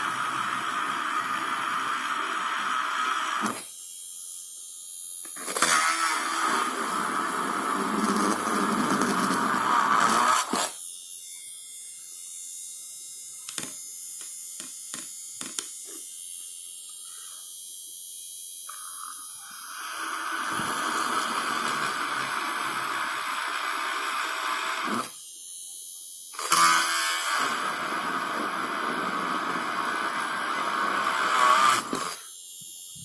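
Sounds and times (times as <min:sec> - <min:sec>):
small motor whirring: 0:00.0 - 0:33.0.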